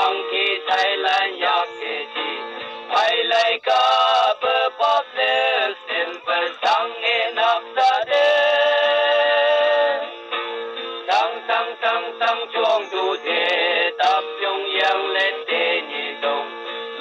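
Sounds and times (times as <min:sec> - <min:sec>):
man singing: 0:00.0 - 0:10.1, 0:11.0 - 0:16.6
instrumental backing: 0:00.0 - 0:17.0.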